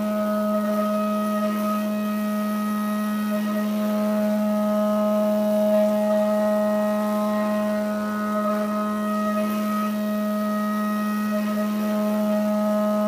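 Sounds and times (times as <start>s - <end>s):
milling machine cutter whine: 0.0s - 13.0s.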